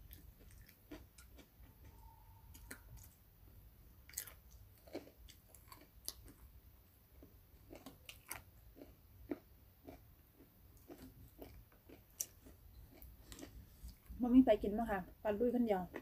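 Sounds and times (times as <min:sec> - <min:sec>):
person chewing: 0:00.0 - 0:03.3, 0:04.0 - 0:06.5, 0:07.1 - 0:14.1.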